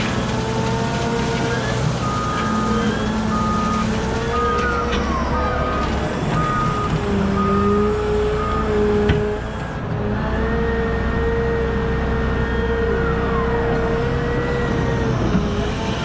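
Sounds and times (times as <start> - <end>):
reversing alarm beeping: 0.0 - 9.6, 12.3 - 15.8
diesel engine working: 0.0 - 16.0.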